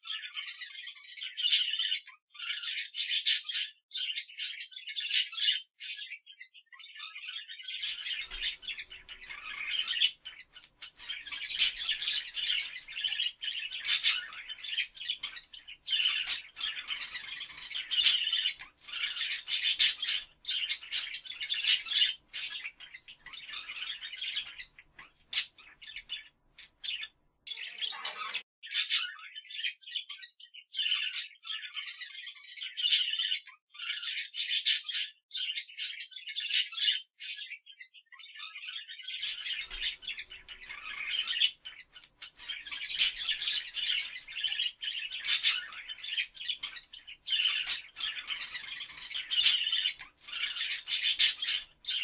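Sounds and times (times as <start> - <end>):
birds chirping and squawking: 0.0 - 52.0.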